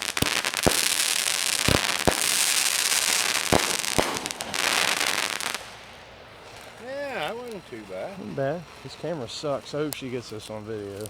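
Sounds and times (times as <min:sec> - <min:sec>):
fireworks crackling hiss: 0:00.0 - 0:11.0
fireworks sharp bangs: 0:00.0 - 0:11.0.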